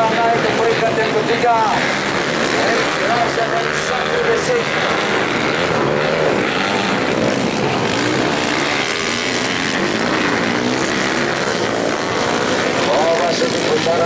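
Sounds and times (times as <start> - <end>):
dirt bike engines racing: 0.0 - 14.0.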